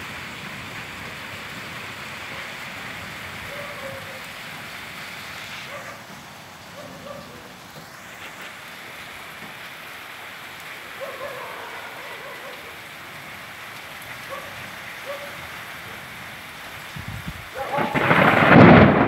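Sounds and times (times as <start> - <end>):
steady rain on roofs: 0.0 - 19.0.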